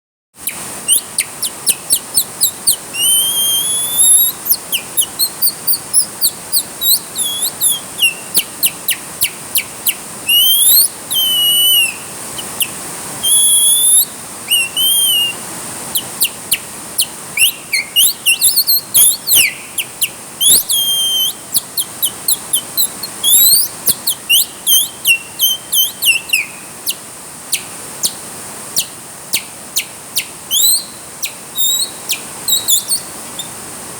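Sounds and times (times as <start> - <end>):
songbird singing: 0.4 - 33.6
faint steady hiss: 0.4 - 33.9.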